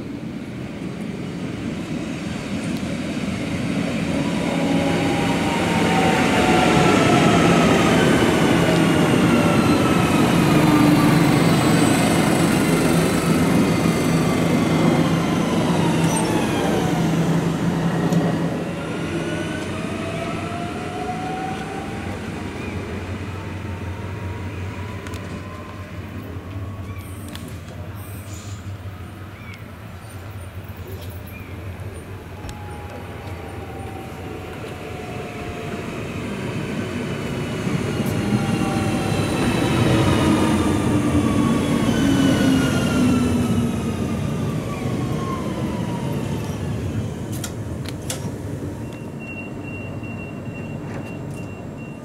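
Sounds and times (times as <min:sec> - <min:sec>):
wheel and rail rumble: 0:00.0 - 0:52.0.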